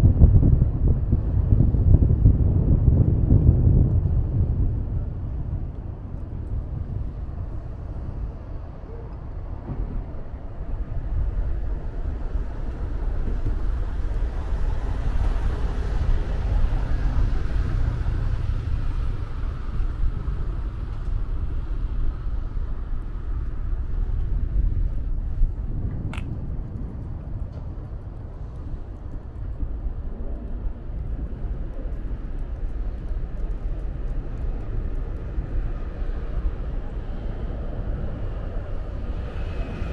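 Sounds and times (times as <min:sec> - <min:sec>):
distant city noise: 0:00.0 - 0:39.9
wind rumbling on microphone: 0:00.0 - 0:39.9.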